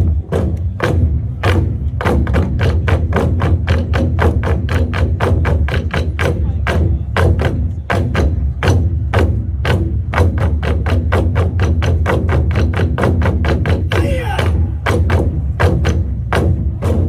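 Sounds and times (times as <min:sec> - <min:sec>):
barrel drums played with sticks: 0:00.0 - 0:17.0.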